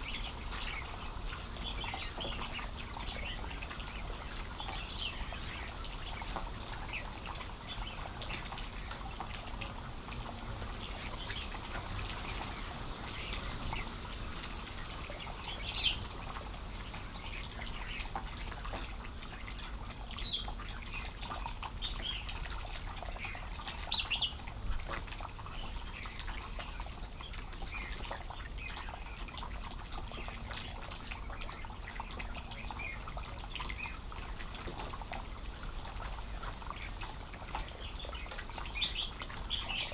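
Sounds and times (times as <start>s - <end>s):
faint water trickling: 0.0s - 39.9s
songbirds chirping: 0.0s - 39.9s.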